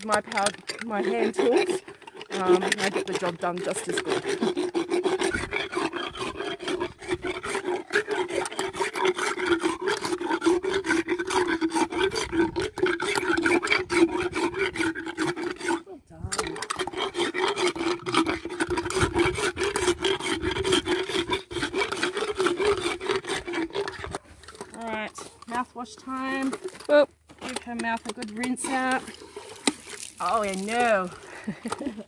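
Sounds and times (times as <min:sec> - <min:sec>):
dental rasp filing horse teeth: 0:00.0 - 0:26.8, 0:27.5 - 0:29.5.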